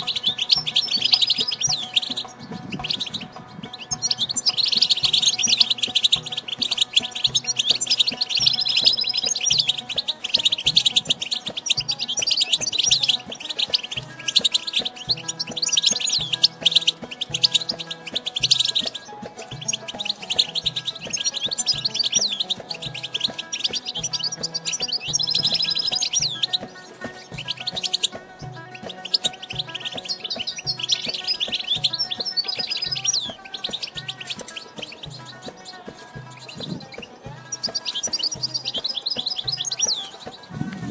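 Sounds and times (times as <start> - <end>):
background music with low beat: 0.0 - 40.9
goldfinches twittering: 0.0 - 40.9.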